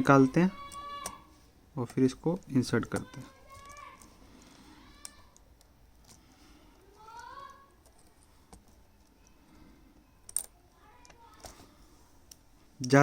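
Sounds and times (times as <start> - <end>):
faint clicks of plastic parts: 0.6 - 13.0.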